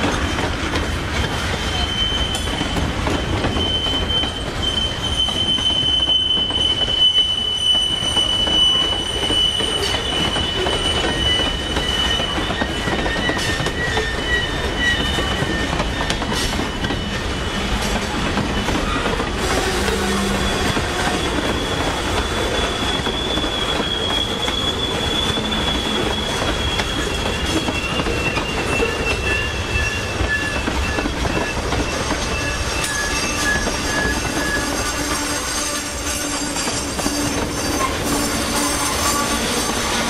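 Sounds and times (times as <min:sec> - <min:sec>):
freight train rumbling by: 0:00.0 - 0:40.0
high wheel squeal: 0:01.1 - 0:40.0
low wheel squeal: 0:01.2 - 0:40.0.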